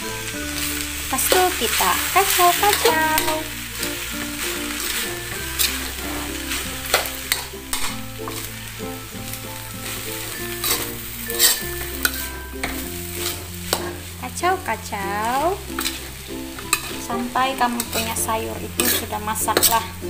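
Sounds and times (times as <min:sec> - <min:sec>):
food sizzling in a wok: 0:00.0 - 0:20.0
quiet background music: 0:00.0 - 0:20.0
metal spatula scraping a pan: 0:00.1 - 0:20.0.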